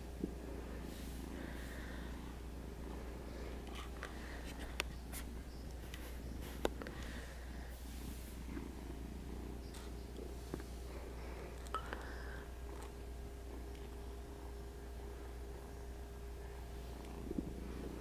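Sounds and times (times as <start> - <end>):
kitten purring: 0.0 - 11.6, 12.6 - 18.0.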